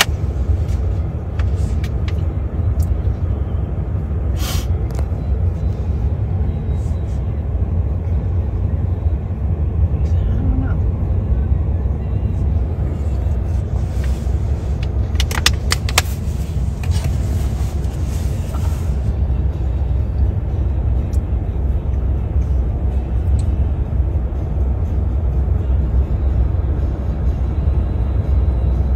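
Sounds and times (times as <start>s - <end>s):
vehicle road rumble from inside: 0.0s - 28.9s.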